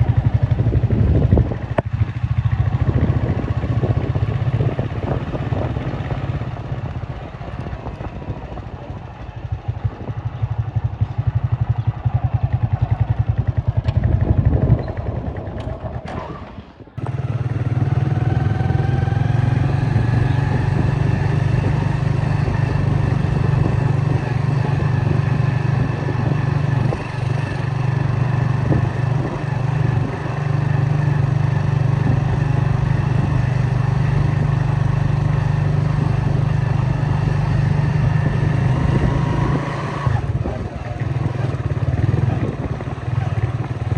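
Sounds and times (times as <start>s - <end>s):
road noise: 0.0s - 43.9s
vehicle engine running: 0.0s - 43.9s.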